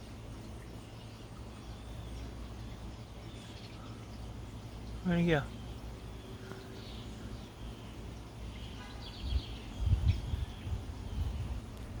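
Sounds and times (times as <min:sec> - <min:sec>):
small bird chirping: 0:00.0 - 0:11.9.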